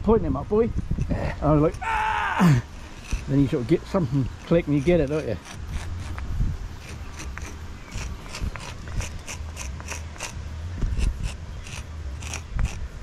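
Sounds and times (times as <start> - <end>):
stick scraping mortar joints: 0.9 - 13.0.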